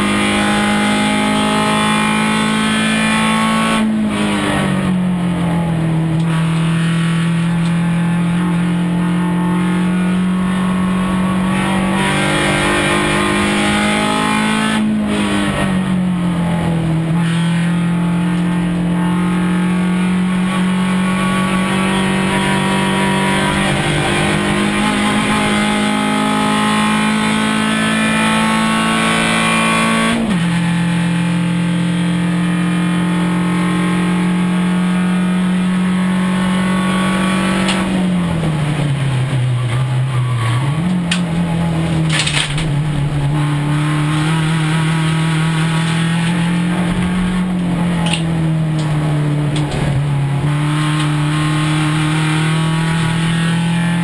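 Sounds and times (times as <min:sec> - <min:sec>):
race car engine pulling hard: 0:00.0 - 0:54.0.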